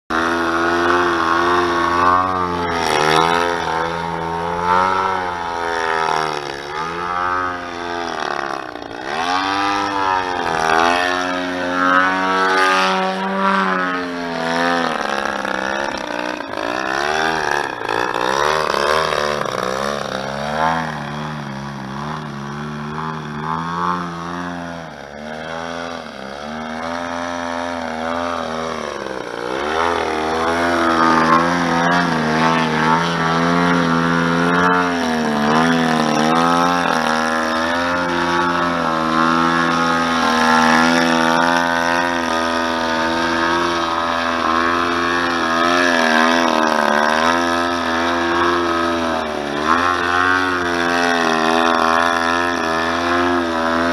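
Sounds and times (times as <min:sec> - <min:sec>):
model airplane engine and propeller: 0:00.0 - 0:53.9.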